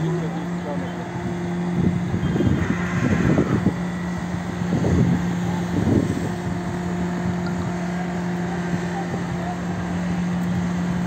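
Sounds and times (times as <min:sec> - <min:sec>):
traffic hum: 0:00.0 - 0:11.0
wind on microphone: 0:01.2 - 0:11.0.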